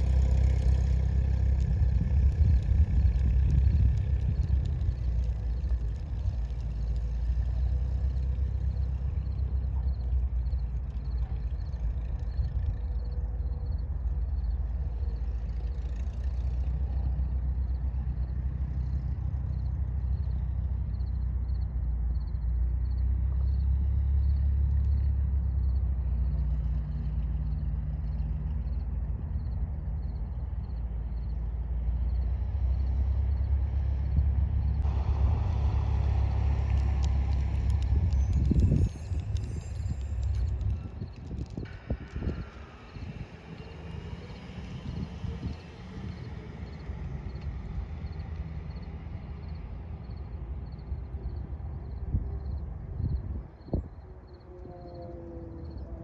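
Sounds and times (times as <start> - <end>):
aircraft piston engine humming: 0.0 - 56.0.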